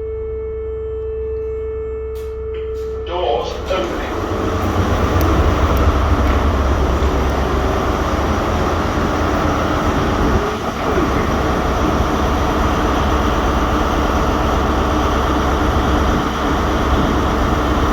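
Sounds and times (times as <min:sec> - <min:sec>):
lift running with low hum: 0:00.0 - 0:17.9
rushing noise: 0:03.1 - 0:17.9.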